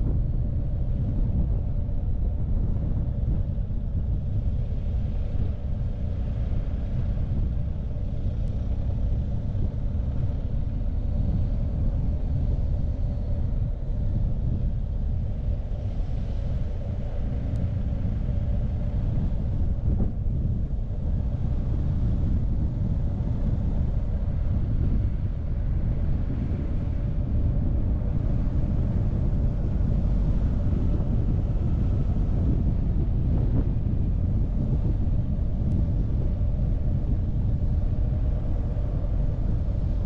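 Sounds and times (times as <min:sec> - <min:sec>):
wind noise on microphone: 0:00.0 - 0:40.0.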